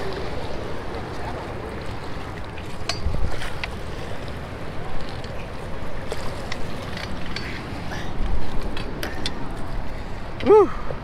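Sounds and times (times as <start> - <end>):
water rushing through spillway: 0.0 - 11.0.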